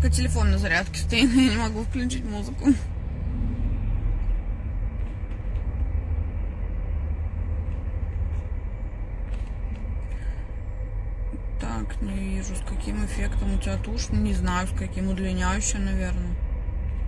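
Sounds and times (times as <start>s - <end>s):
low engine rumble inside car: 0.0s - 17.0s.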